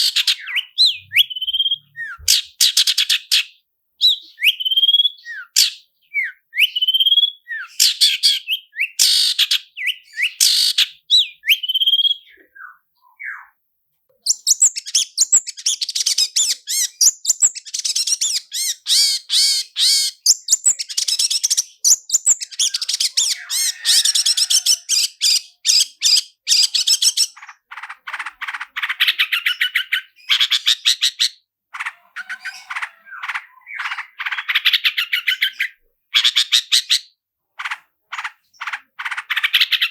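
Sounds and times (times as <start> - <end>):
bird singing: 0.0 - 13.6, 14.3 - 39.9.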